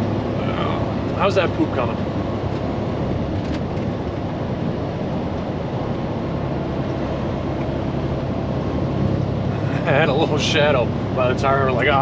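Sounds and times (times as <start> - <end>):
truck diesel engine: 0.0 - 12.0.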